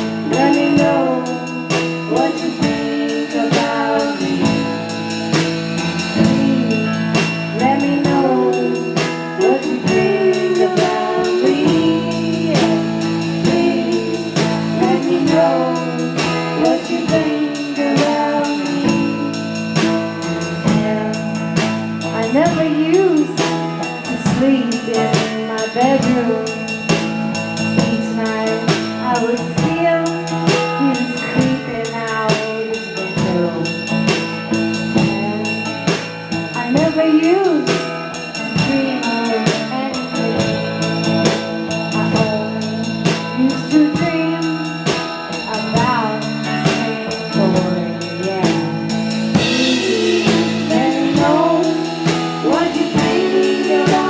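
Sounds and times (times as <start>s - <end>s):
person singing: 0.0s - 5.2s, 6.0s - 27.0s, 27.8s - 34.1s, 34.8s - 54.0s
drum kit beat: 0.0s - 54.0s
electric guitar: 0.0s - 54.0s.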